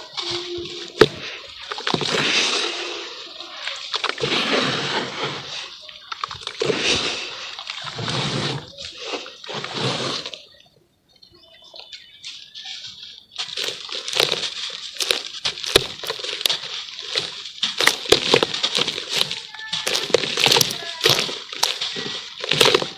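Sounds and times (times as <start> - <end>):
charcoal crackling and crunching: 0.0 - 10.5, 13.3 - 22.9
water sloshing and splashing: 0.0 - 10.8, 11.5 - 22.9.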